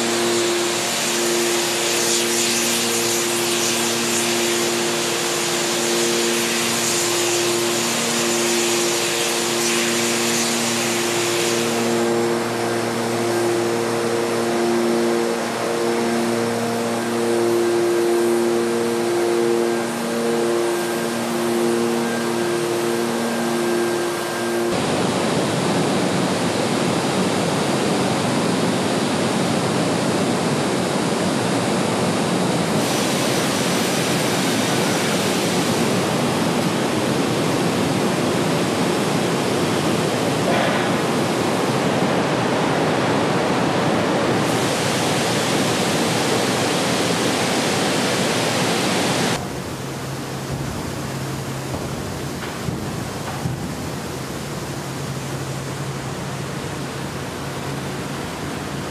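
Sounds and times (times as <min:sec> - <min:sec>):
rolling mill machinery rushing: 0:00.0 - 0:28.0, 0:31.4 - 0:58.9
steady humming tones: 0:00.0 - 0:58.9.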